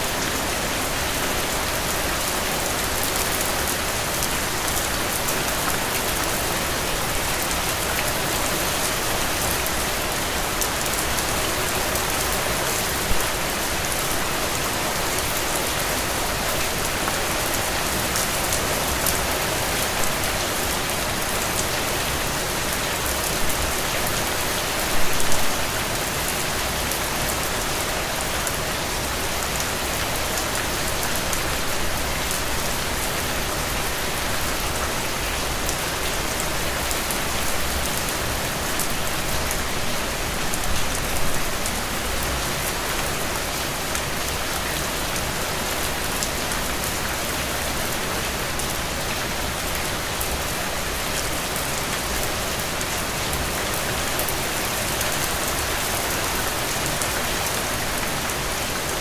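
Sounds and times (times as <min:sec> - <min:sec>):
heavy rain on puddles: 0:00.0 - 0:59.0.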